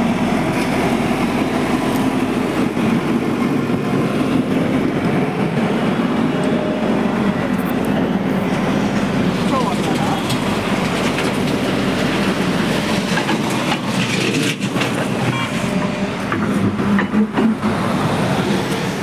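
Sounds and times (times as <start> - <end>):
diesel machinery humming: 0.0 - 19.0.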